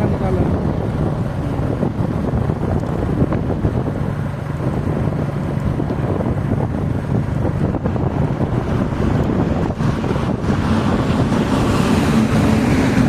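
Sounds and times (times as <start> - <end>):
motorcycle engine cruising: 0.0 - 13.0
wind rushing over microphone: 0.0 - 13.0.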